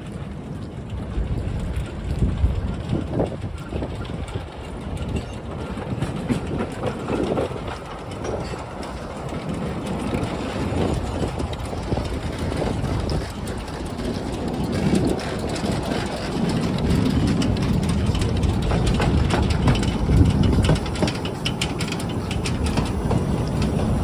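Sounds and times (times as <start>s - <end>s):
steam train wheels on rails: 0.0s - 24.0s.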